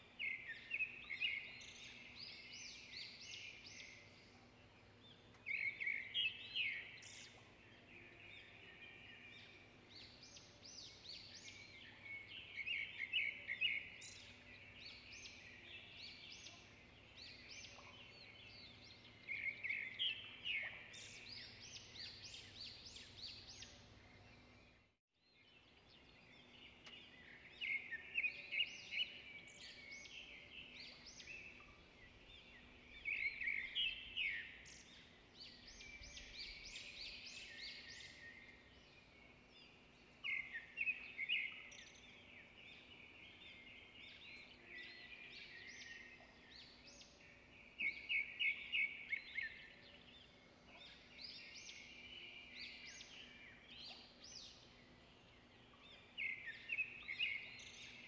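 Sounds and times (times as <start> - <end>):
birds chirping and singing: 0.1 - 58.0.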